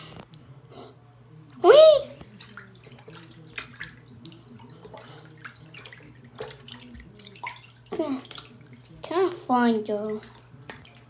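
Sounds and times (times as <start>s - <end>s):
water sloshing in a sink: 1.8s - 11.0s.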